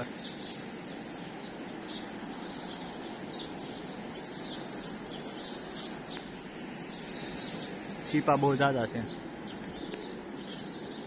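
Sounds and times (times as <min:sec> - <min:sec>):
small birds chirping: 0:00.0 - 0:11.0
steady hiss: 0:00.0 - 0:11.0.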